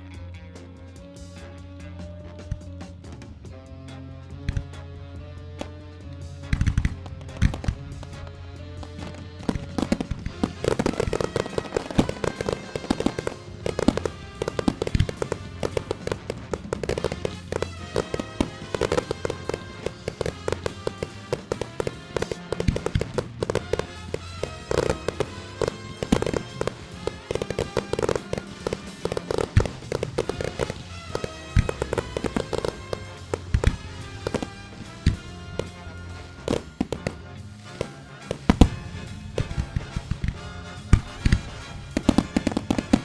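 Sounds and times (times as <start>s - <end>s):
fireworks bangs and crackles: 0.0s - 43.0s
music from loudspeakers: 0.0s - 43.0s.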